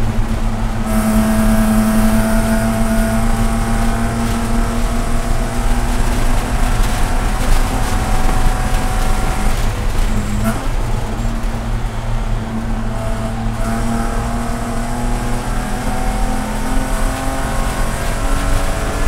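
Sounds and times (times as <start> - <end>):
race car engine at full throttle: 0.0 - 19.0.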